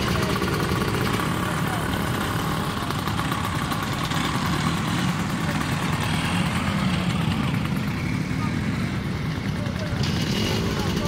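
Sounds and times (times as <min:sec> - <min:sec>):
scooter engines droning: 0:00.0 - 0:11.0.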